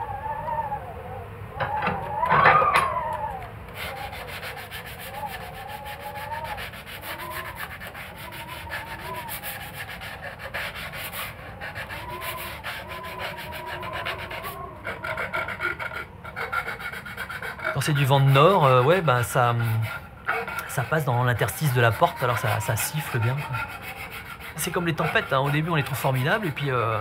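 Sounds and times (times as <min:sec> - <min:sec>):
wind whistling through door gap: 0:00.0 - 0:24.1.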